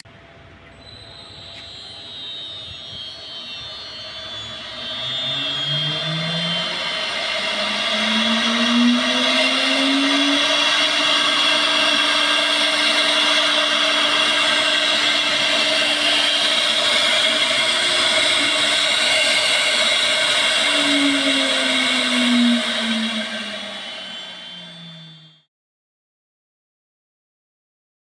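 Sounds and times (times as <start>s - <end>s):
router spindle whine: 0.0s - 25.5s.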